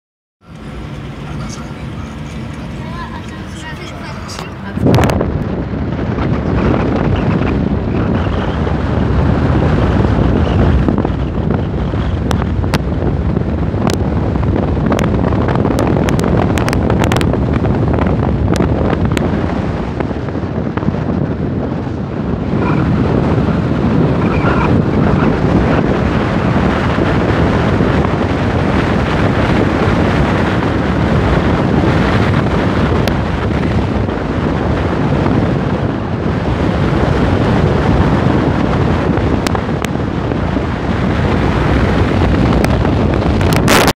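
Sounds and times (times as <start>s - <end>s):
car road and engine noise: 0.4s - 43.9s
wind over microphone: 0.4s - 43.9s.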